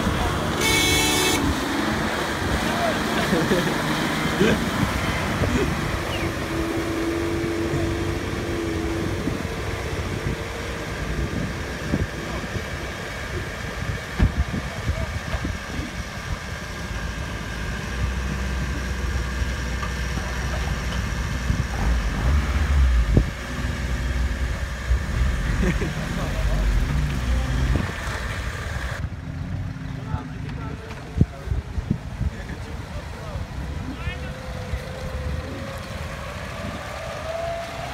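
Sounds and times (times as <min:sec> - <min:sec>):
off-road engines running: 0:00.0 - 0:37.9.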